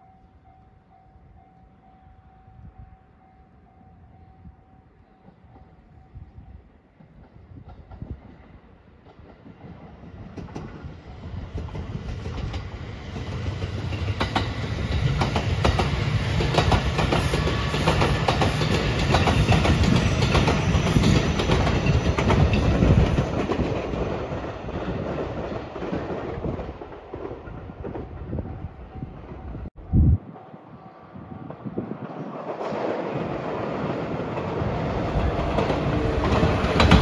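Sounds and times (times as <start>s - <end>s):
train passing close by: 0.0s - 37.0s.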